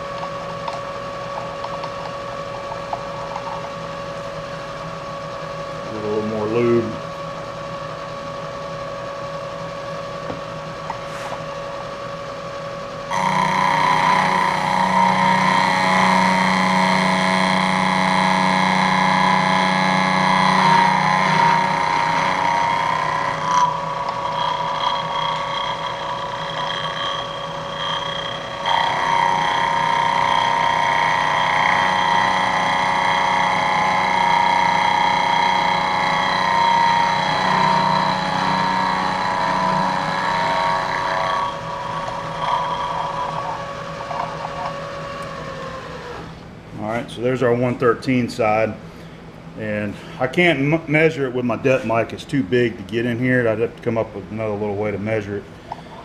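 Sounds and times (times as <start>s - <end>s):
milling machine cutting whine: 0.0s - 48.2s.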